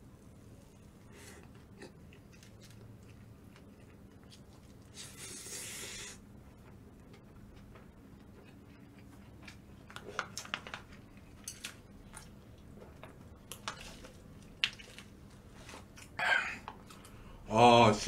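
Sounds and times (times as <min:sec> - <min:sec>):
wet chewing with crunches: 0:01.2 - 0:17.1.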